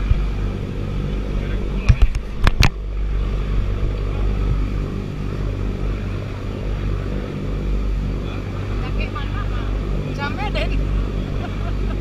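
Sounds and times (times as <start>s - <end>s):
boat engines droning: 0.0s - 12.0s
water rushing along hull: 0.0s - 12.0s.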